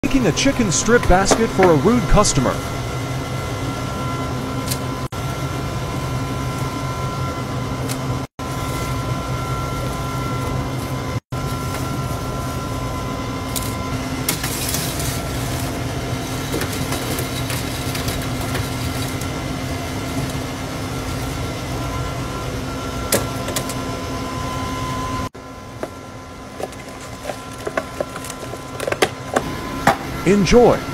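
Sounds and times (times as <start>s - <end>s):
kitchen equipment drone: 0.0s - 30.9s.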